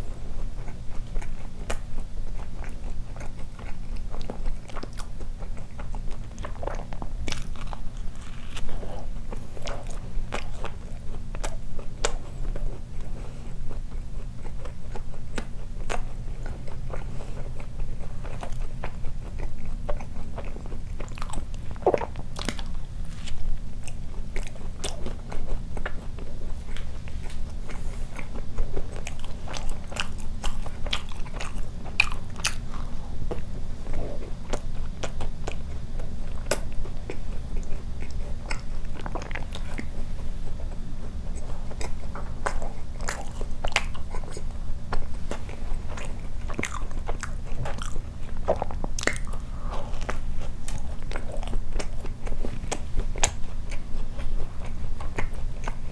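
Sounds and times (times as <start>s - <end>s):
steady low hum: 0.0s - 55.9s
wet chewing mouth sounds: 0.0s - 55.9s.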